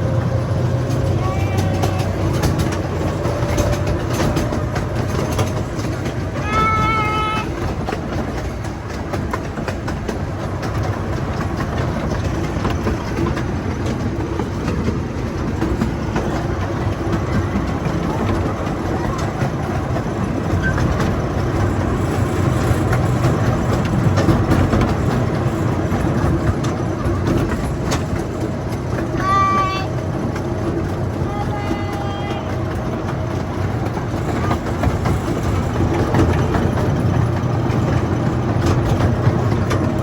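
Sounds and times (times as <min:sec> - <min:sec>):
train cars rumbling and rattling: 0:00.0 - 0:40.0.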